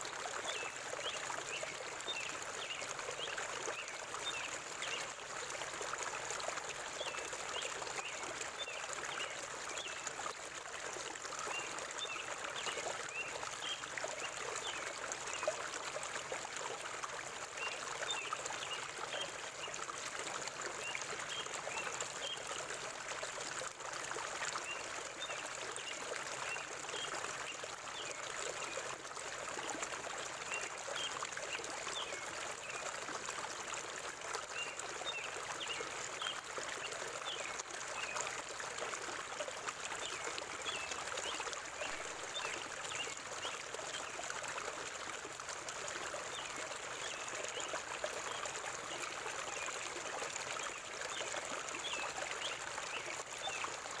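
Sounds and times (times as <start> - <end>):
stream water trickling and splashing: 0.0 - 54.0.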